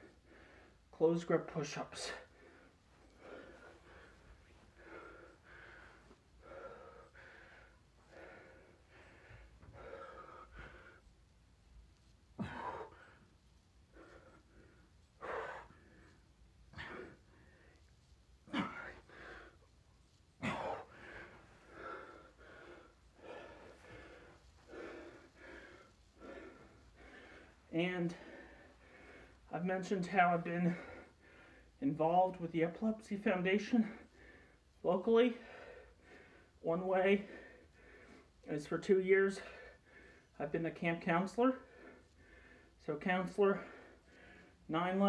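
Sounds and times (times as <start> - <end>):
man breathing hard: 0.0 - 0.9, 2.0 - 11.3, 12.0 - 29.6, 30.4 - 31.8, 33.6 - 36.6, 37.2 - 38.5, 39.3 - 40.4, 41.6 - 42.8, 43.5 - 44.7.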